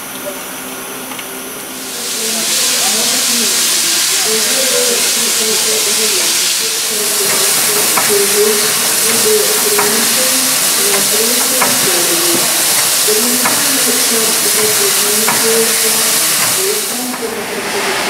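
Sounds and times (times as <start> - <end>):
steam hissing loudly: 1.6 - 18.0.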